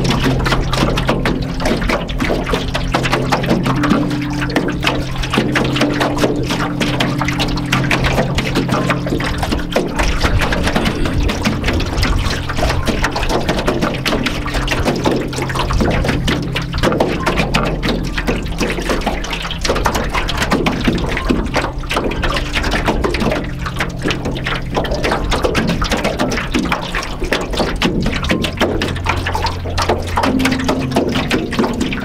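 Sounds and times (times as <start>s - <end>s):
ambient music drone: 0.0s - 32.0s
waves lapping against canoe hull: 0.0s - 32.0s.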